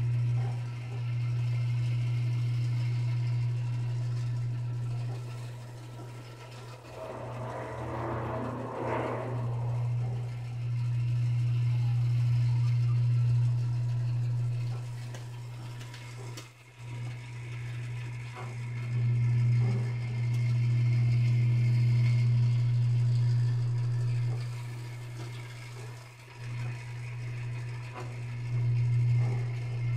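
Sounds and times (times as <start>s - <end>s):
rotisserie motor humming: 0.0s - 29.9s.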